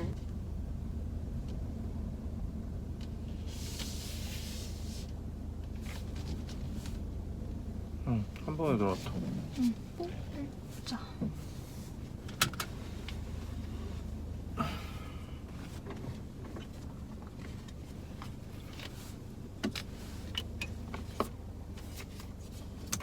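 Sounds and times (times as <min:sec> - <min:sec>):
car interior low hum: 0:00.0 - 0:23.0.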